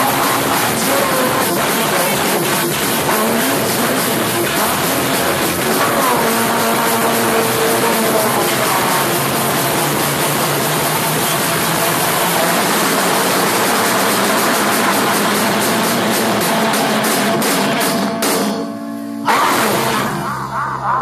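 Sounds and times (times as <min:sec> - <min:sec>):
punk rock band playing: 0:00.0 - 0:18.6
cymbal crash ringing out: 0:00.0 - 0:20.9.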